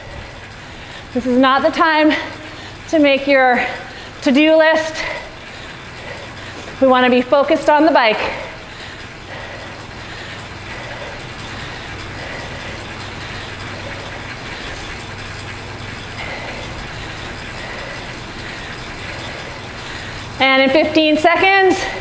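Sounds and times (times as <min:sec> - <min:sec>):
bike trainer whirring: 0:00.0 - 0:22.0
low hum: 0:00.0 - 0:22.0.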